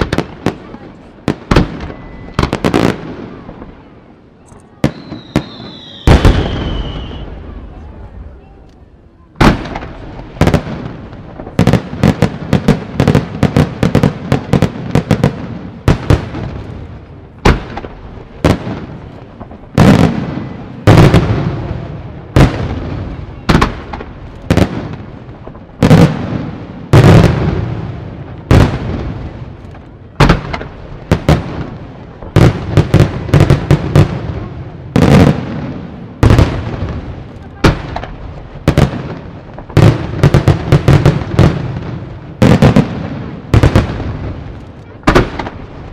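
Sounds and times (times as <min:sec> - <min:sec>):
echoing booms: 0:00.0 - 0:04.0, 0:04.8 - 0:08.4, 0:09.4 - 0:45.9.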